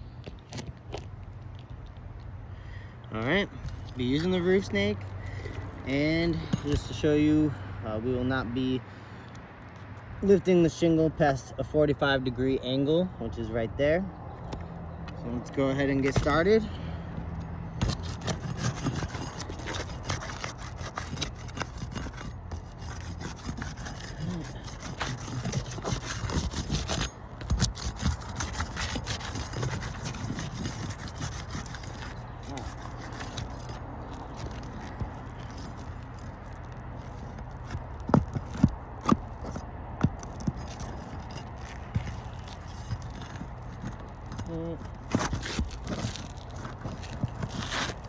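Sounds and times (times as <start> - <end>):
tool scraping under a shingle: 2.6 - 13.6, 14.4 - 48.0.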